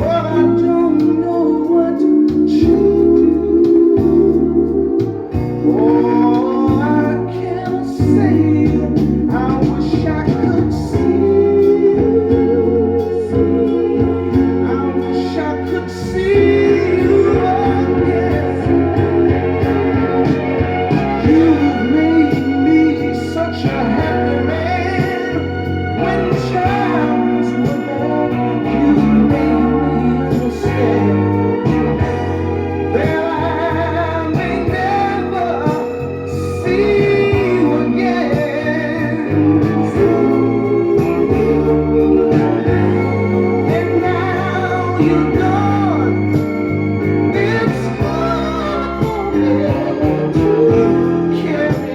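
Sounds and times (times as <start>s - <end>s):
song with singing and guitar band: 0.0s - 51.9s.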